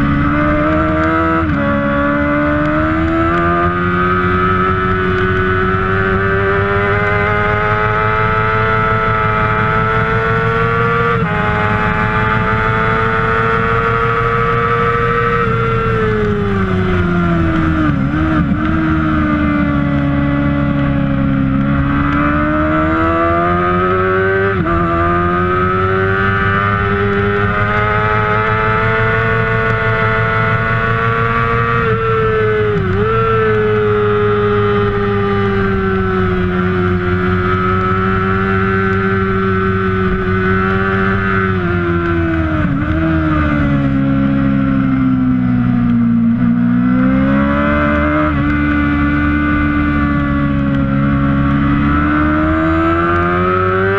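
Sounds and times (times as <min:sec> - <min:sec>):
racing motorcycle engine at high revs: 0:00.0 - 0:53.9.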